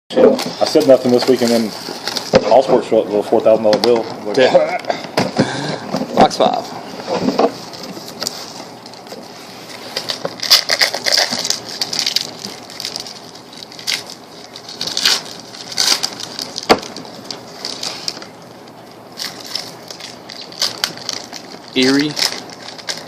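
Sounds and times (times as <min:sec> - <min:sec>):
packaging crinkling and crackling: 0:00.4 - 0:05.0, 0:07.3 - 0:23.0.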